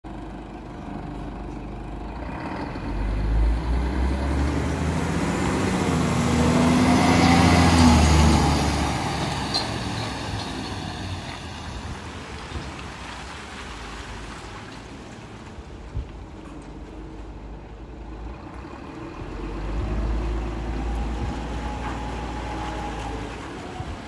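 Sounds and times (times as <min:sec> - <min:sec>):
diesel truck driving past: 0:00.1 - 0:24.0
tyre noise on wet asphalt: 0:00.8 - 0:24.0.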